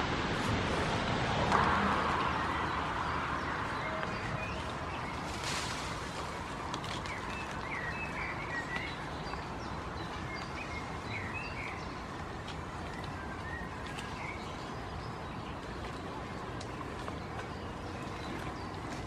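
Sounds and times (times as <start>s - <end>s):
outdoor background noise: 0.0s - 19.0s
small birds chirping: 2.2s - 19.0s.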